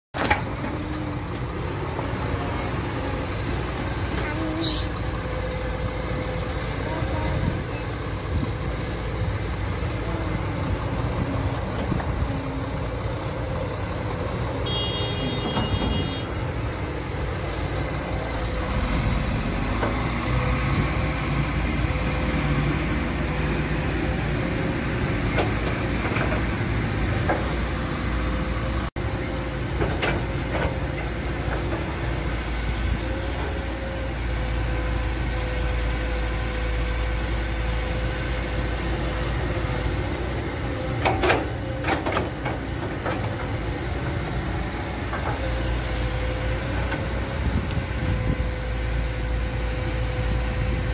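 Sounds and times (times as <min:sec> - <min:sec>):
excavator diesel engine running: 0:00.2 - 0:50.9.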